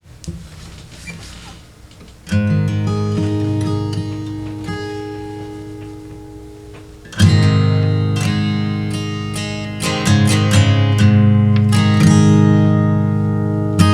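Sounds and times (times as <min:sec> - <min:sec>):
acoustic guitar chords strummed: 0:01.7 - 0:13.9.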